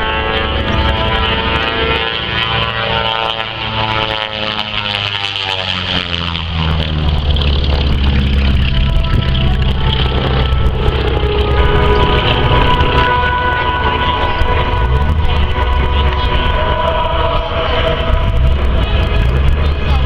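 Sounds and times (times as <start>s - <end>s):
propeller plane engines droning: 0.0s - 20.0s.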